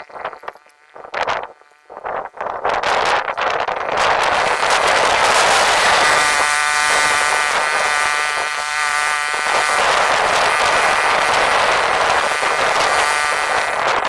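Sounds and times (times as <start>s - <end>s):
motorised mower buzzing: 0.0s - 14.0s.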